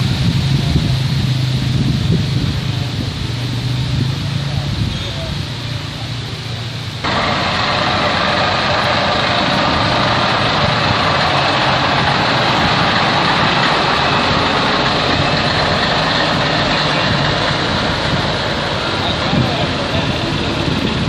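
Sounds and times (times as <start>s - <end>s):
diesel truck engine driving past: 0.0s - 21.0s.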